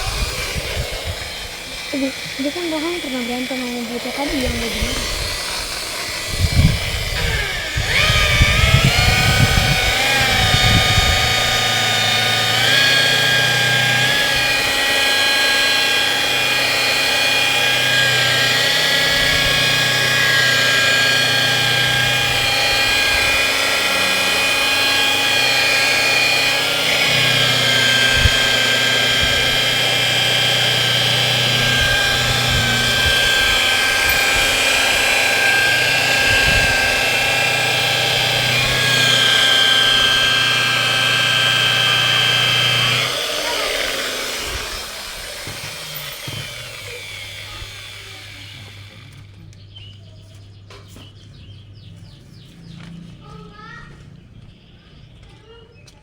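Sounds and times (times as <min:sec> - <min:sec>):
electric polisher whining: 0:00.0 - 0:49.3.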